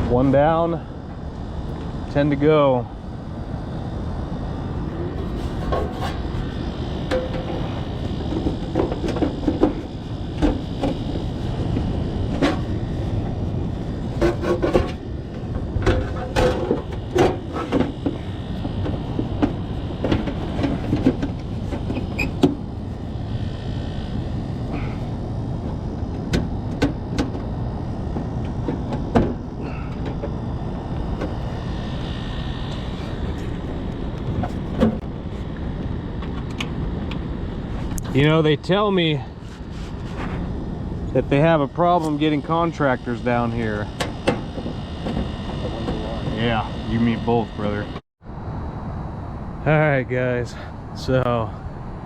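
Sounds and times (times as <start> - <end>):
steady low rumble: 0.0 - 52.0.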